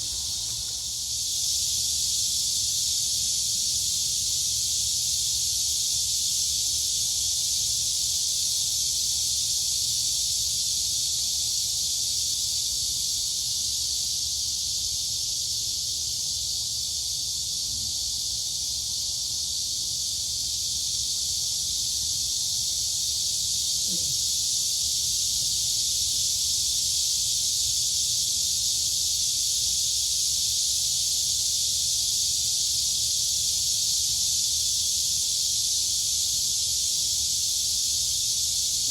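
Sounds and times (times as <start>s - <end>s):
crickets and cicadas chirping: 0.0s - 38.9s.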